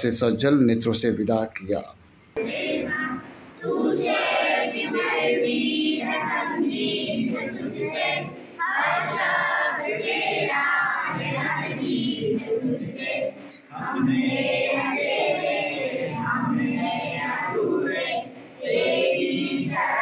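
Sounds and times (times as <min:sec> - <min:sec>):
group of people singing: 0:02.4 - 0:20.0.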